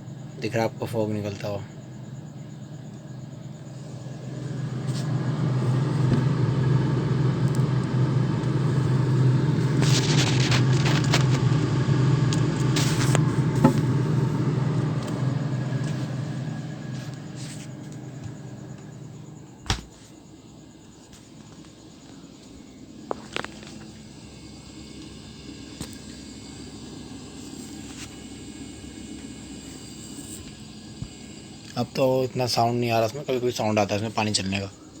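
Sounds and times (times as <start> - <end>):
refrigerator humming and rumbling: 0.0 - 35.0.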